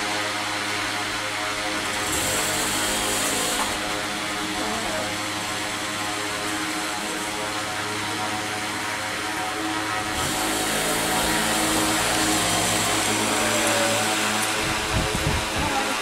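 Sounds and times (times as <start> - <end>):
mechanical drone with hum: 0.0 - 16.0.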